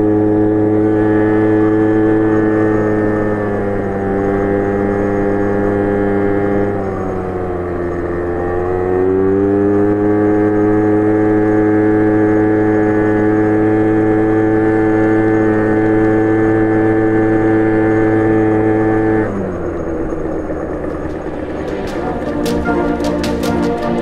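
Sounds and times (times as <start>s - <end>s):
four-wheeler engine running: 0.0s - 21.6s.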